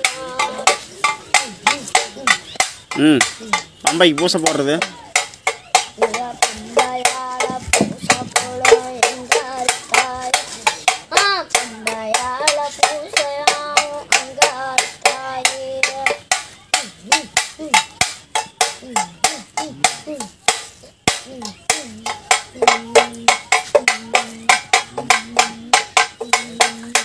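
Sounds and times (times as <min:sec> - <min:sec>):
child singing: 0:00.0 - 0:03.9, 0:04.8 - 0:27.0
tin can drum beaten with stick: 0:00.0 - 0:27.0.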